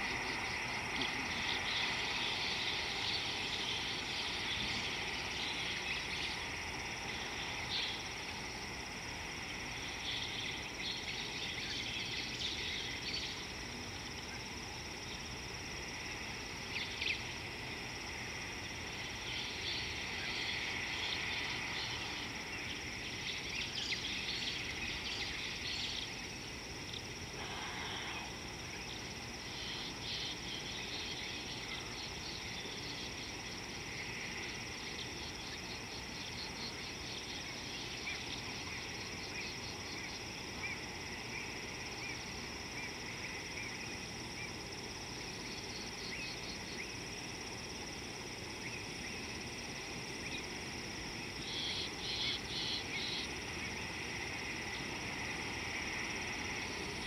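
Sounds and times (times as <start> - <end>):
insect chorus buzzing and trilling: 0.0 - 57.0
short insect chirps: 0.0 - 57.0.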